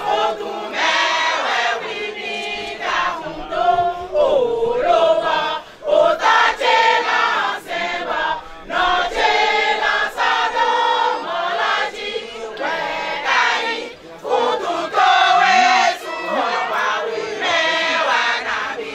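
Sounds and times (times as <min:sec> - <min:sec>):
women singing a chant: 0:00.0 - 0:18.9.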